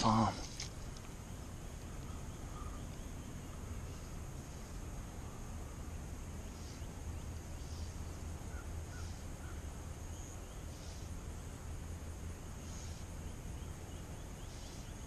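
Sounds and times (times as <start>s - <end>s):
faint bird chirps: 1.2s - 11.2s, 12.5s - 15.0s.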